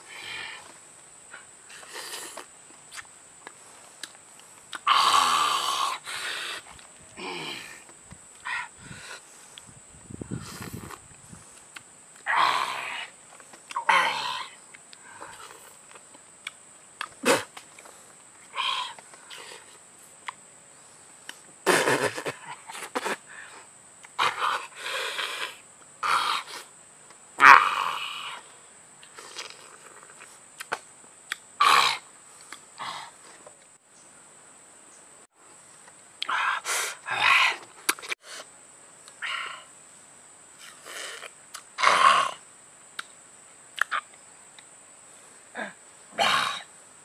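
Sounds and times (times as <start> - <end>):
high insect drone: 0.0 - 47.0.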